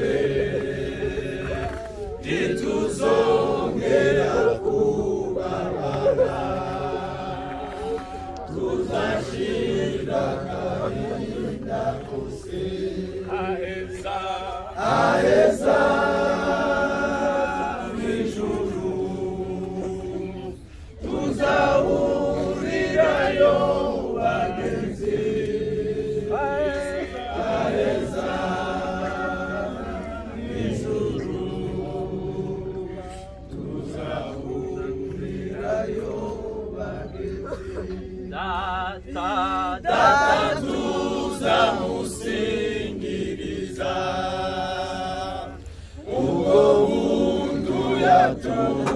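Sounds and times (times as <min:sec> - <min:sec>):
people singing together unaccompanied: 0:00.0 - 0:48.9.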